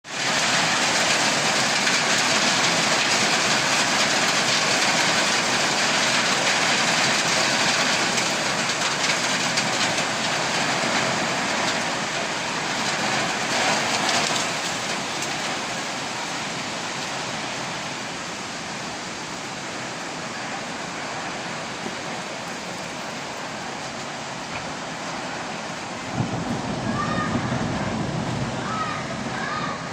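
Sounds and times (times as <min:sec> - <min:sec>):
heavy rain pouring: 0:00.0 - 0:29.9.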